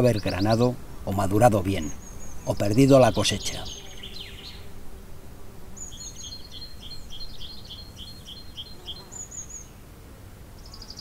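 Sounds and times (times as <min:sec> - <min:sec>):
small bird chirping: 0:00.0 - 0:04.7, 0:05.8 - 0:09.7, 0:10.6 - 0:11.0
faint outdoor hiss: 0:00.0 - 0:11.0.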